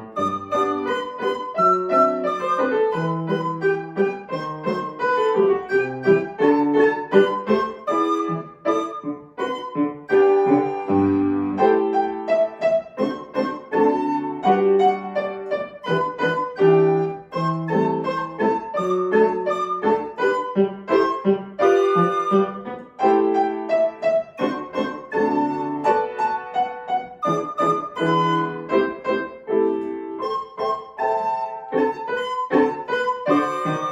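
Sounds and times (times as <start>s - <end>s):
solo piano piece: 0.0s - 33.9s.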